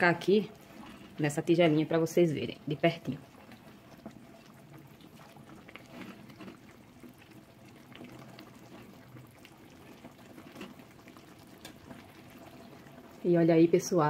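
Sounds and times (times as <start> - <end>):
stew slopping and pouring: 0.0 - 14.0.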